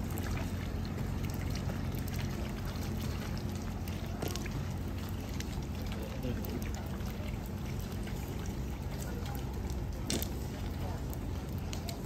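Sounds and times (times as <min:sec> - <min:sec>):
steady low rumble: 0:00.0 - 0:12.0
water splashing: 0:00.0 - 0:12.0.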